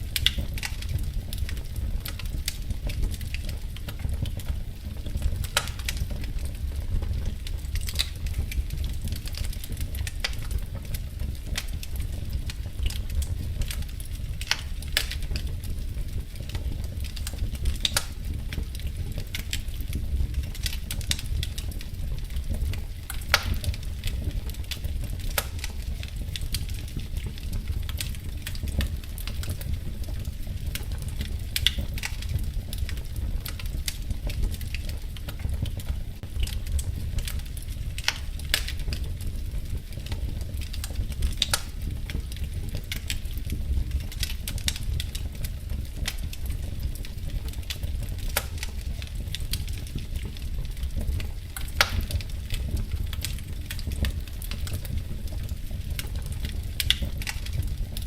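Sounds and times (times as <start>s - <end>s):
fire low rumble: 0.0s - 58.0s
wood fire crackling: 0.0s - 58.0s.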